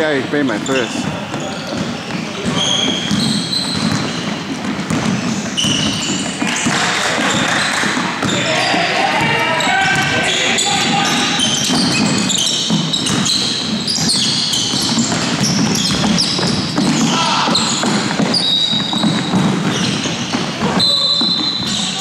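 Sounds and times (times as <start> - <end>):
sneaker squeaks on wooden court: 0.0 - 22.0
basketball bouncing: 0.6 - 22.0
running feet: 1.0 - 22.0.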